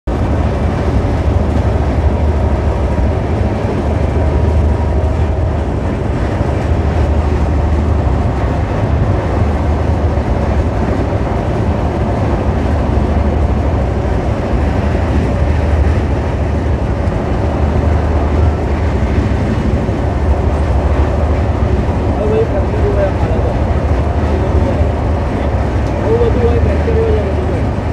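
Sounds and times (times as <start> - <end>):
deep rumble: 0.0 - 27.9
train wheels running on rails: 0.1 - 27.9.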